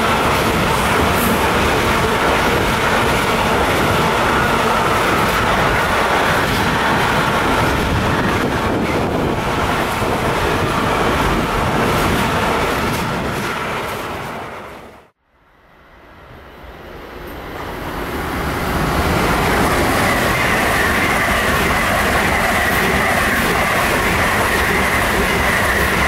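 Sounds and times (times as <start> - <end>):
freight train wheels on rails: 0.0 - 15.2, 16.0 - 26.0.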